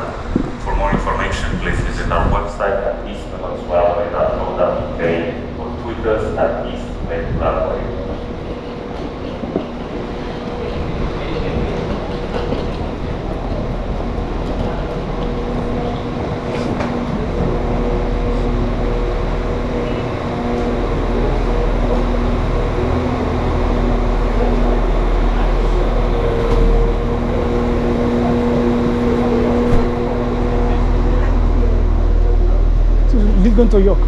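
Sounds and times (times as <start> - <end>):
humming tones: 0.0 - 34.0
train rumbling: 0.0 - 34.0.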